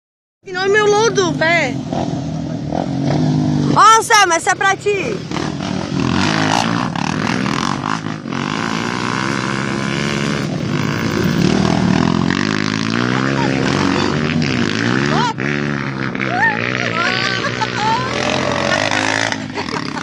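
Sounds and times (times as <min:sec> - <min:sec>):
motorcycle engines revving: 0:00.5 - 0:20.0.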